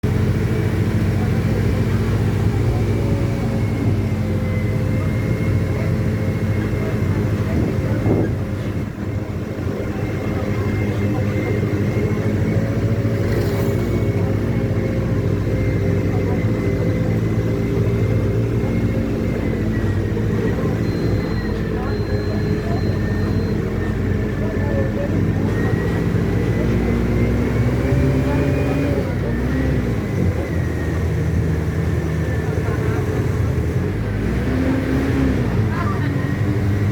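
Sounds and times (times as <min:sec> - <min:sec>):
bus diesel engine running: 0:00.0 - 0:36.9.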